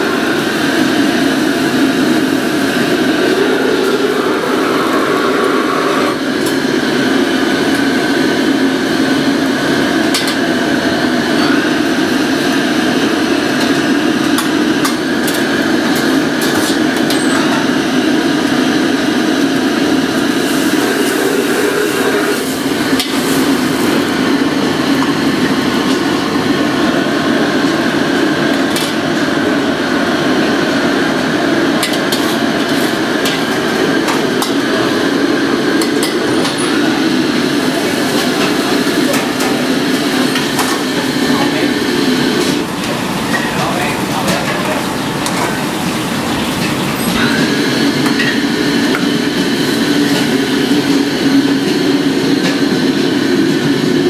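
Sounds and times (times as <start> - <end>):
gas wok burner roaring: 0.0 - 54.0.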